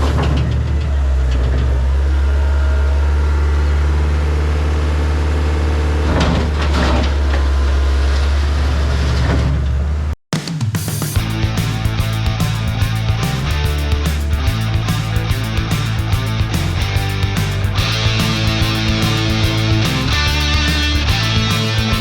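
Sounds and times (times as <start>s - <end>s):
skid steer engine running: 0.0s - 9.0s, 11.2s - 22.0s.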